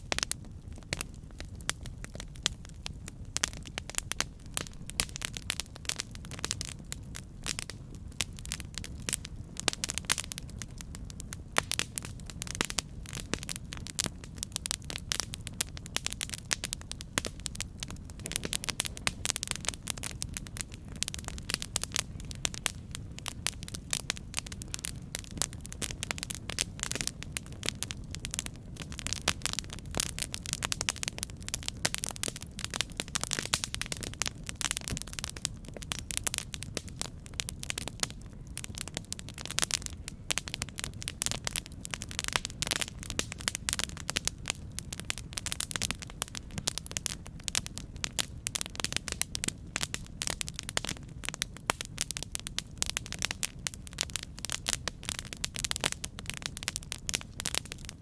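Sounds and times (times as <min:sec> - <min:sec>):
campfire crackling and popping: 0:00.0 - 0:58.0
flames rumbling: 0:00.0 - 0:58.0.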